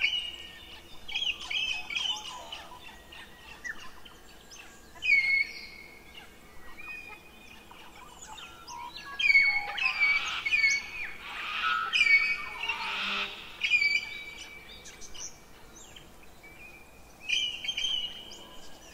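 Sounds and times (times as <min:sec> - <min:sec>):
songbirds singing: 0:00.0 - 0:18.9.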